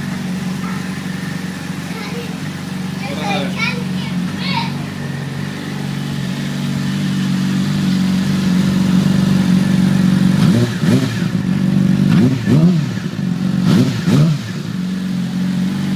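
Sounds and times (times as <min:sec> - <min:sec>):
motorcycle engine idling and revving: 0:00.0 - 0:15.9.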